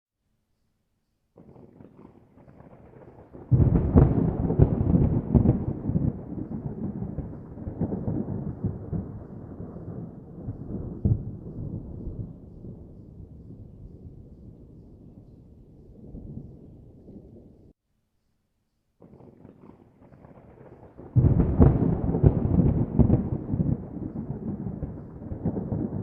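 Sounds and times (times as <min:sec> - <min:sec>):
thunder rumbling: 0:01.4 - 0:17.7, 0:19.0 - 0:26.0.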